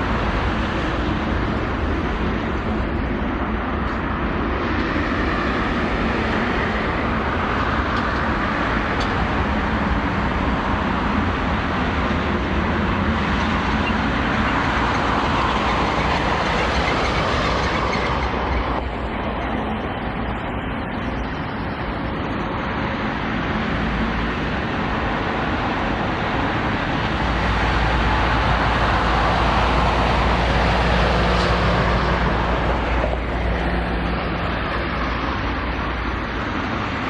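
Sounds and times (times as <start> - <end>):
jet engine roar: 0.0 - 37.0.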